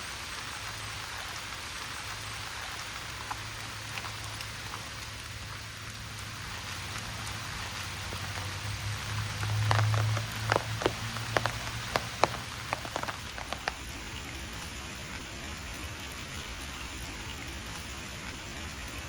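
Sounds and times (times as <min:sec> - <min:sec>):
loud raindrop ticks: 0:00.0 - 0:19.0
steady rain falling: 0:00.0 - 0:19.0.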